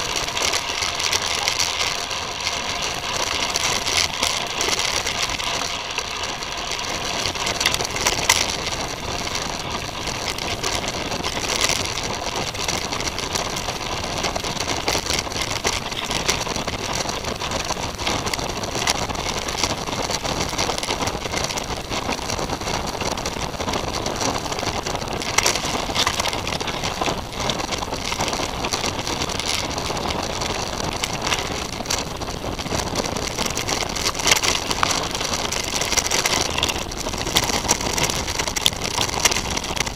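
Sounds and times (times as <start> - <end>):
bike rattling and knocking: 0.0 - 39.9
tyre and wind rush: 0.0 - 39.9.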